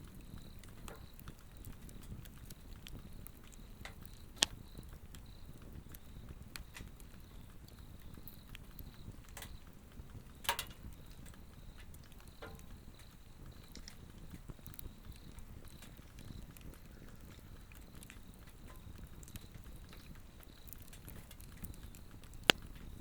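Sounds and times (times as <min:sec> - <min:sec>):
insects chirping: 0:00.0 - 0:23.0
log fire crackling: 0:00.0 - 0:23.0.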